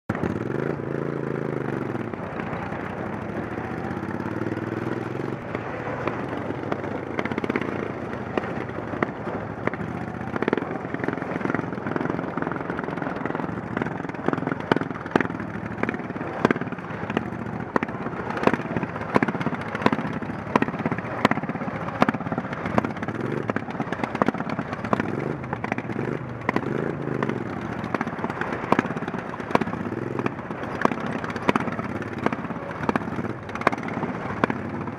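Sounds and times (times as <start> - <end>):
racing lawn mower engines: 0.0 - 34.9.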